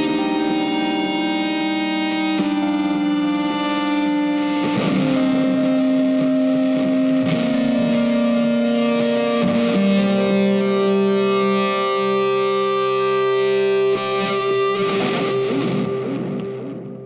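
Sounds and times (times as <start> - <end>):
guitar sustained notes with effects: 0.0 - 17.0.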